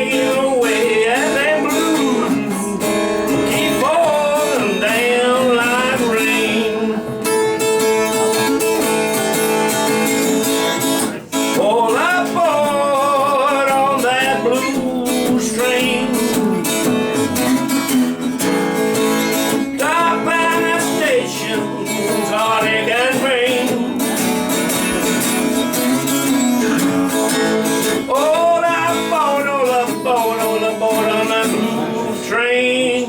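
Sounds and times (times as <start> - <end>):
strummed acoustic guitar: 0.0 - 33.0.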